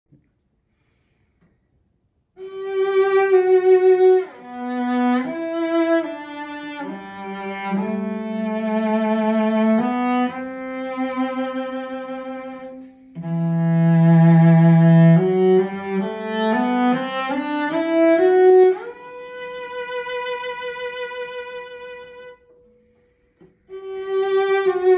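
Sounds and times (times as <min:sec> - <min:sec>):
bowed cello melody: 0:02.4 - 0:24.9.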